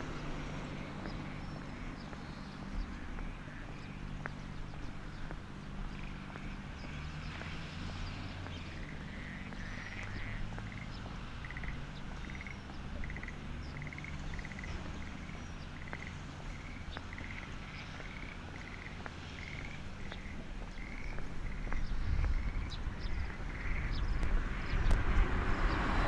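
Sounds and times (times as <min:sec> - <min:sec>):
frogs croaking: 0:00.1 - 0:26.0.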